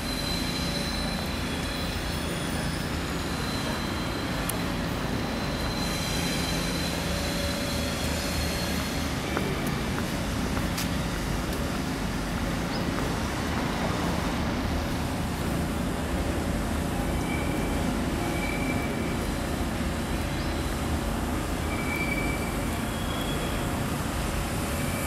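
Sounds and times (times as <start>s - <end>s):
low traffic rumble: 0.0s - 25.0s.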